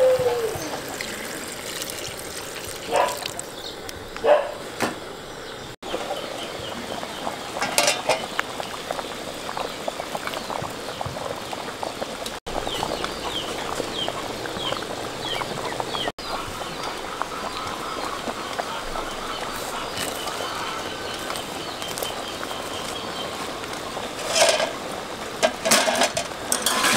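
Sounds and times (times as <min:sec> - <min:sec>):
soup bubbling in a pot: 0:00.4 - 0:04.2, 0:05.8 - 0:25.6.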